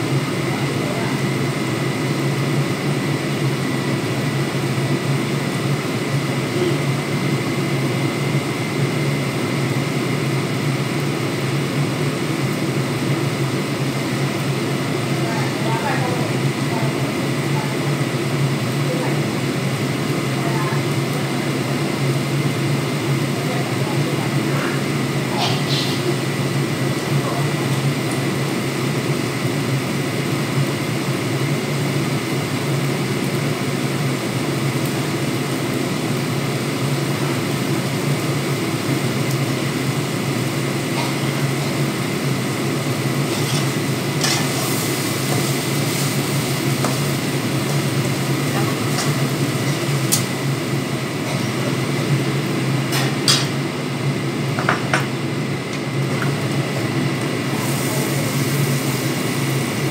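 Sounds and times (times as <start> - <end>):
pan hissing on stove: 0.1 - 59.9.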